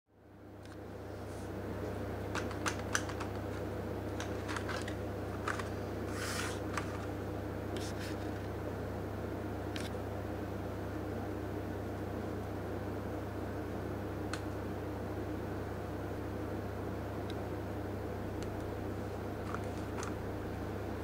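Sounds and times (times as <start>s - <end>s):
steady low hum: 0.2s - 21.0s.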